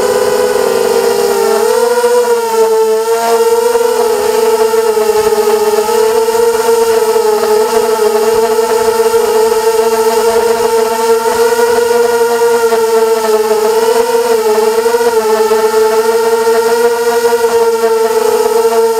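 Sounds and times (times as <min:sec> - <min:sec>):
drone motors whining: 0:00.0 - 0:18.9.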